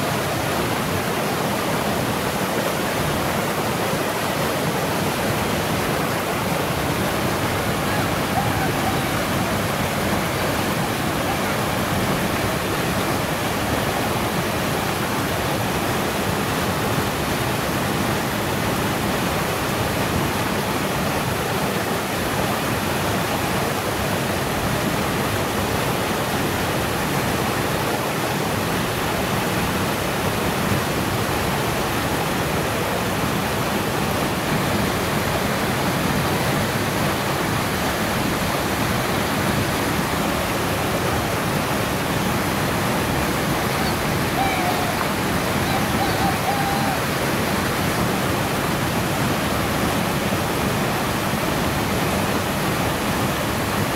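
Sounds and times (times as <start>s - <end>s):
waterfall splashing into pool: 0.0s - 53.9s.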